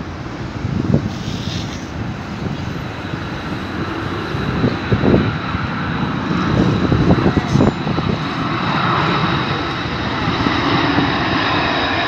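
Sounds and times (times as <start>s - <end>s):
jet engine rumble and whine: 0.0s - 12.0s
wind buffeting microphone: 0.0s - 12.0s.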